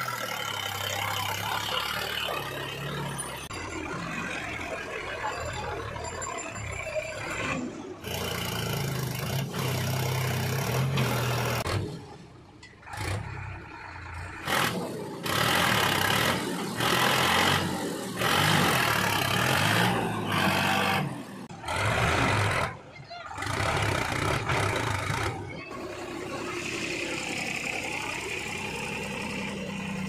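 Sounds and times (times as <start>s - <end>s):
tractor diesel engine working hard: 0.0s - 30.0s.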